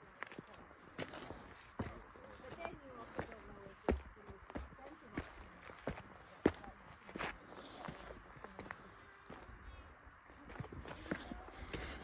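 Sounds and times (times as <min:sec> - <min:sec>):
footsteps on trail: 0:00.0 - 0:12.0.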